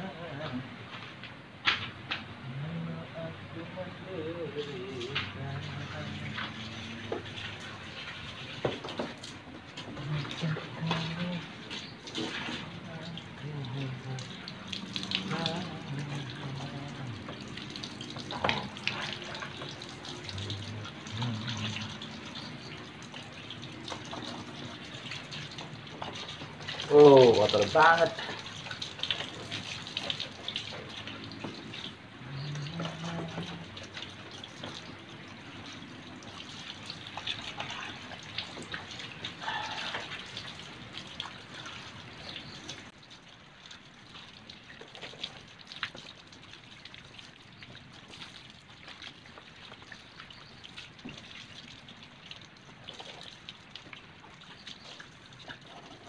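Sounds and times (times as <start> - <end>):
garden hose water splashing: 0.0 - 56.0
water drips: 4.3 - 56.0.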